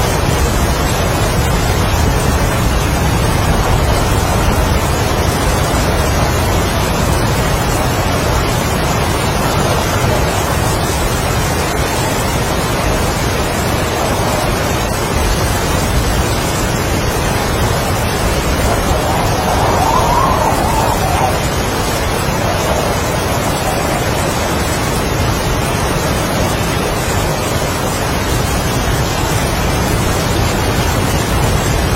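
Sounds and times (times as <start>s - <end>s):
heavy rain: 0.0s - 31.9s
strong wind: 0.0s - 31.9s.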